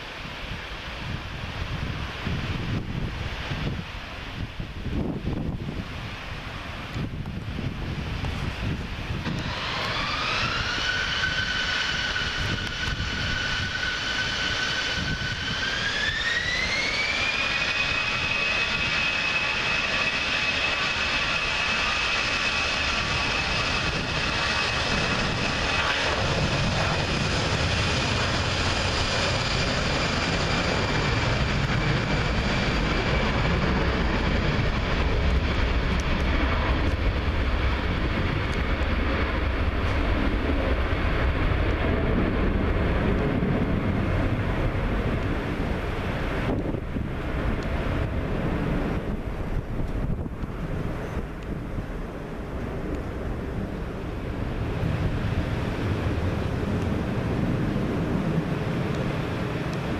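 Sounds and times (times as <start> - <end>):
jet engines whining: 0.0 - 59.9
low jet roar: 0.0 - 59.9.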